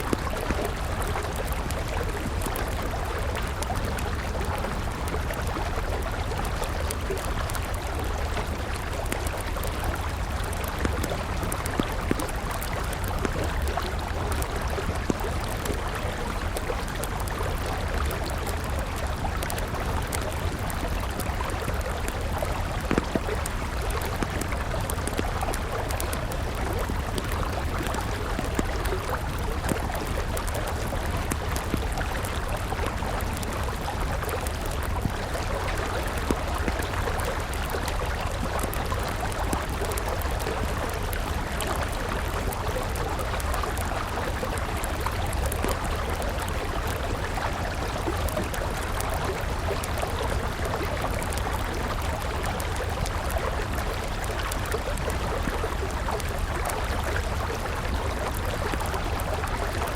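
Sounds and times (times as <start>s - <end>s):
campfire crackling: 0.0s - 59.9s
river flowing: 0.0s - 59.9s.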